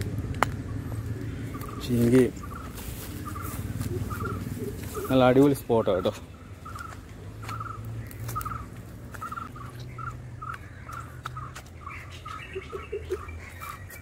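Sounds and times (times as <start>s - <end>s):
fainter calls of other birds: 0.6s - 14.0s.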